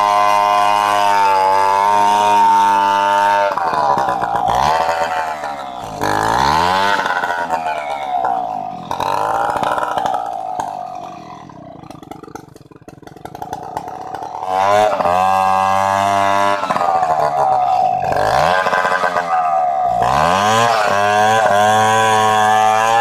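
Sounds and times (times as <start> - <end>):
chainsaw engine revving and idling: 0.0 - 23.0.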